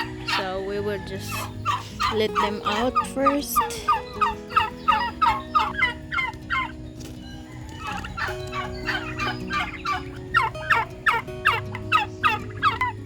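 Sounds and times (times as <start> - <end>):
turkeys calling: 0.0 - 13.0.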